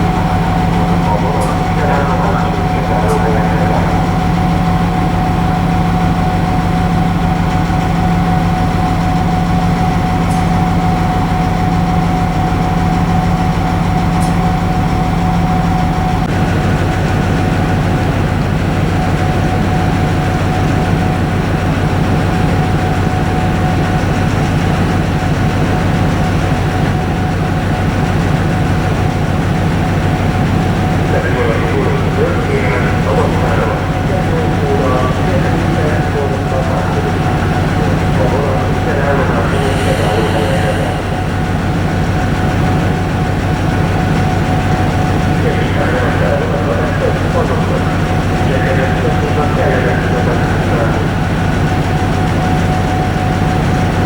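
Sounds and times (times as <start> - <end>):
locomotive engine hum and whine: 0.0 - 54.0.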